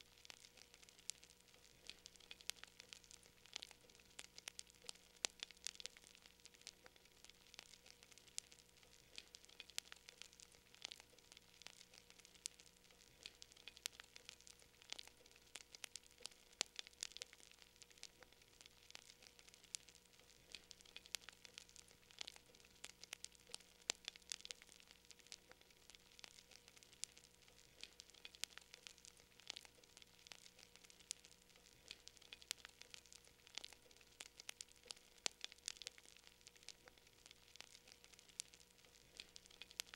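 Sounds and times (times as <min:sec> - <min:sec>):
faint steady hum: 0:00.0 - 0:39.9
fire popping and snapping: 0:00.0 - 0:39.9
wood fire crackling: 0:00.0 - 0:39.9.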